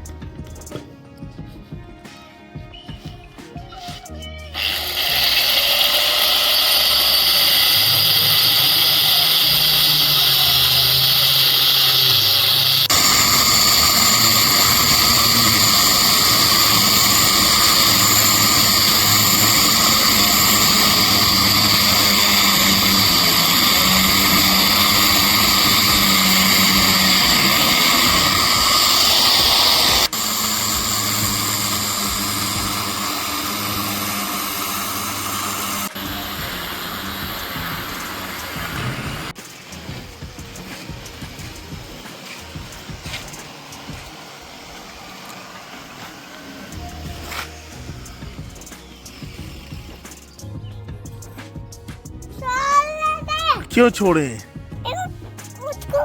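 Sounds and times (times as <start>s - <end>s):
loud machine noise: 4.6s - 50.4s.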